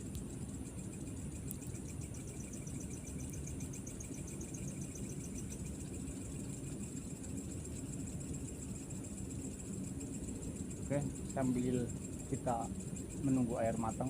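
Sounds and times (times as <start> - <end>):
crickets chirping: 0.0 - 14.0
high insect hum: 0.0 - 14.0.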